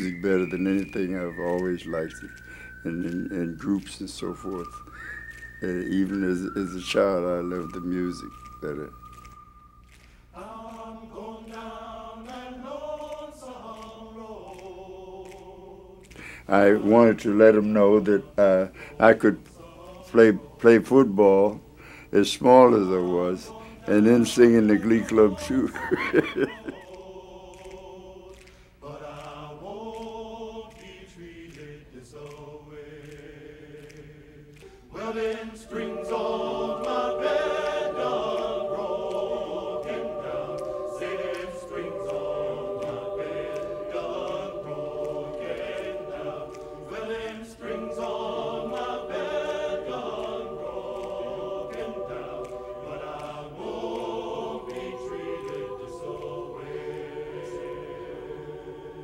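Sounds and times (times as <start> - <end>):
choir singing sustained chords: 0.0 - 59.0.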